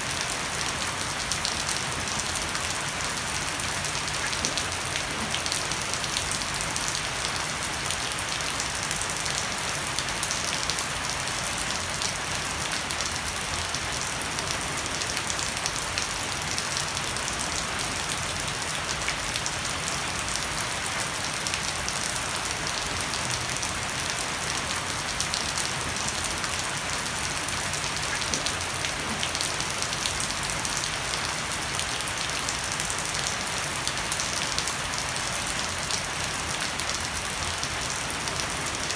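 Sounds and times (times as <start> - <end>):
heavy rain on wooden deck: 0.0 - 38.9.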